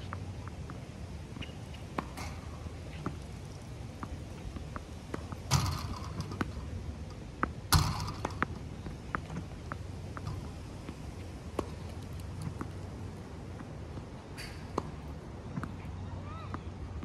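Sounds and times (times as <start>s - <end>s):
tennis balls being hit: 1.4s - 15.8s.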